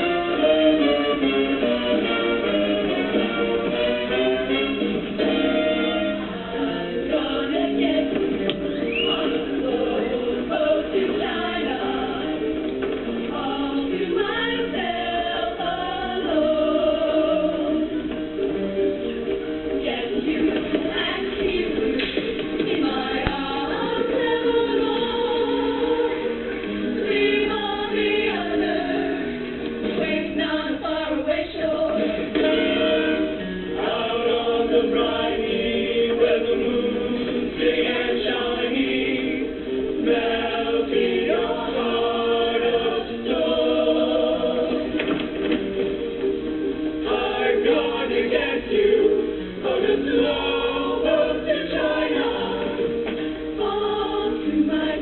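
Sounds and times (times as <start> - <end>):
choir singing in harmony: 0.0 - 18.1, 19.8 - 45.4, 46.9 - 55.0.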